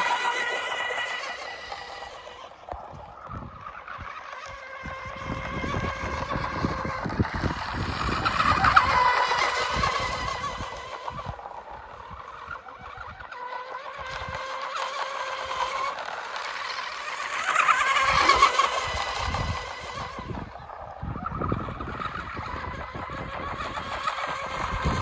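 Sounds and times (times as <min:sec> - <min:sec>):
model boat motor whining: 0:00.0 - 0:25.0.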